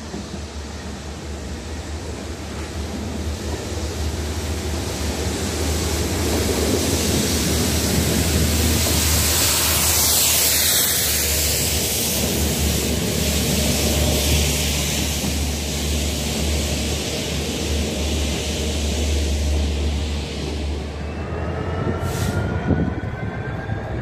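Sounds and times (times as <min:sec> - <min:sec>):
low locomotive engine drone: 0:00.0 - 0:24.0
train rushing and water jets hissing: 0:00.0 - 0:24.0.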